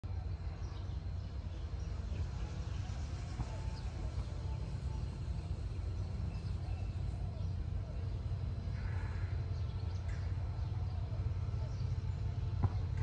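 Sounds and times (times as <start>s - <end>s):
distant voices: 0.0s - 13.0s.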